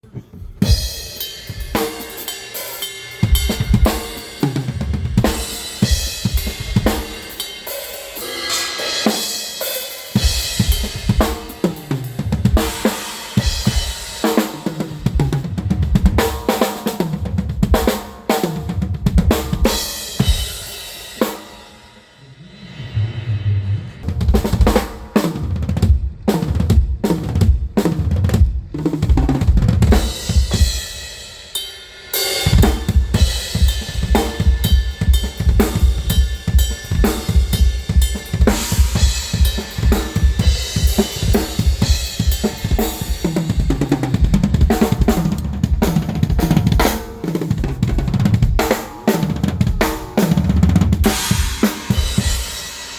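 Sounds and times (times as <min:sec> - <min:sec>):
heavy drum strikes: 0:00.2 - 0:31.4, 0:32.1 - 0:52.9
fast drum beat with cymbals: 0:00.4 - 0:52.9.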